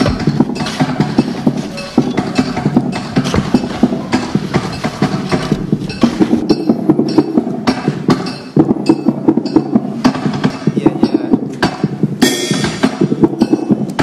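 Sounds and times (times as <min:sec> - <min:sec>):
fast clattering knocks and taps: 0:00.0 - 0:11.9.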